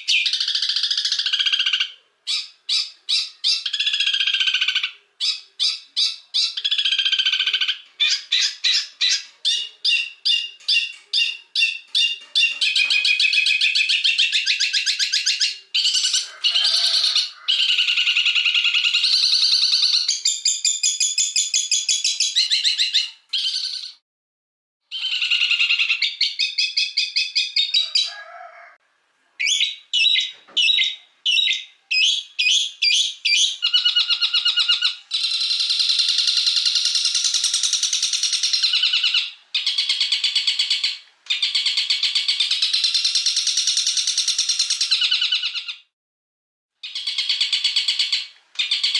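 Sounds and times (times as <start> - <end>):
cage birds singing trills: 0.0 - 24.0, 24.9 - 28.5, 29.4 - 45.9, 46.8 - 48.9.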